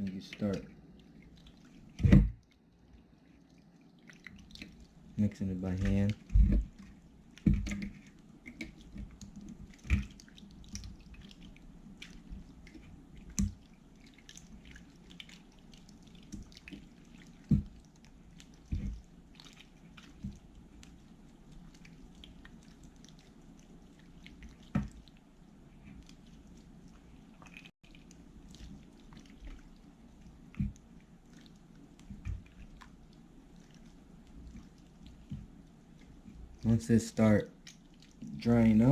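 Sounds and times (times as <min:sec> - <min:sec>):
slime squishing by hand: 0:00.0 - 0:38.9.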